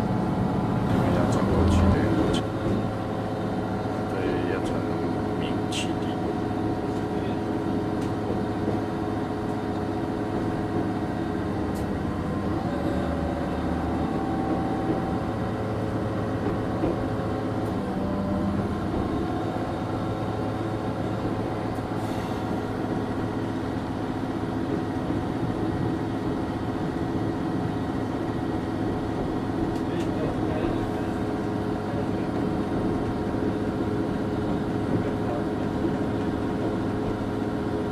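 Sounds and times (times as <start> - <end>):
train engine hum: 0.0 - 37.9.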